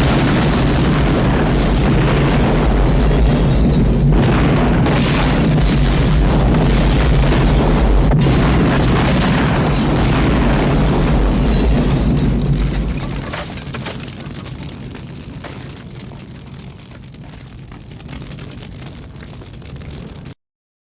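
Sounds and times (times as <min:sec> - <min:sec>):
explosion rumble: 0:00.0 - 0:20.4
scattered crackles: 0:00.0 - 0:20.4.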